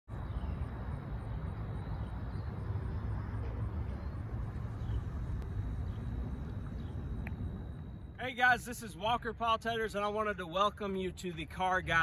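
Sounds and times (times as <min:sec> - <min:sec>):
steady low rumble: 0:00.1 - 0:12.0.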